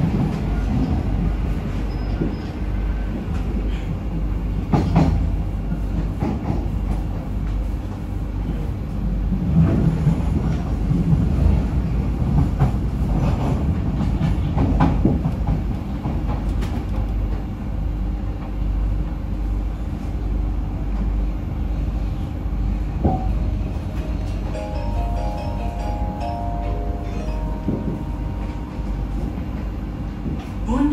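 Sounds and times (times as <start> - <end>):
train low rumble: 0.0 - 30.9.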